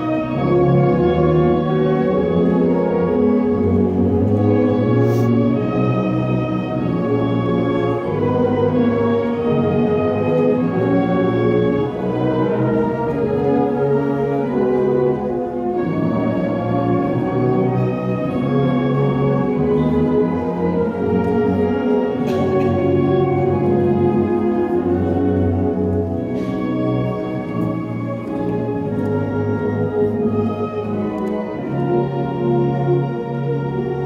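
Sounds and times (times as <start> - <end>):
instrumental ensemble music: 0.0 - 34.0.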